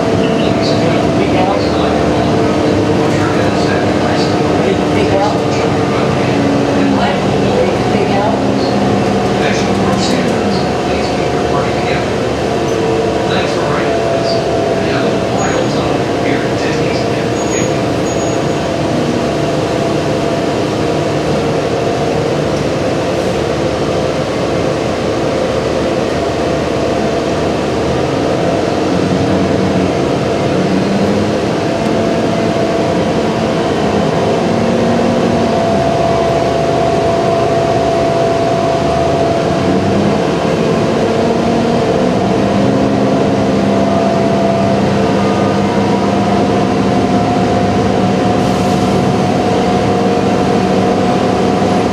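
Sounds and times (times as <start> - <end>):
bus engine humming: 0.0 - 51.9
road noise: 0.0 - 51.9.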